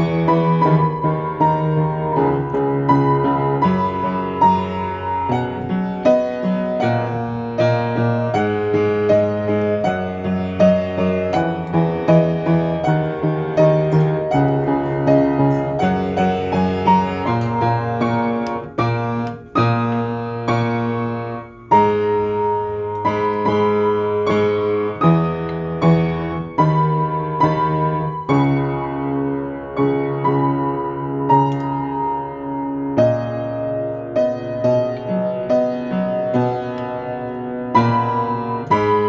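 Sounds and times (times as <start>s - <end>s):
slow piano piece: 0.0s - 39.0s.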